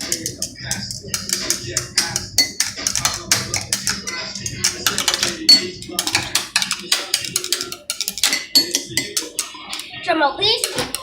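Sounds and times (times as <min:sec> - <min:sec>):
children drumming: 0:00.0 - 0:09.9.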